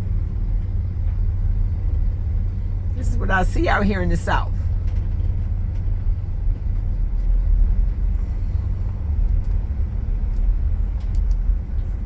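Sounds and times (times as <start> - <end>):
car driving on dirt road: 0.0 - 12.0.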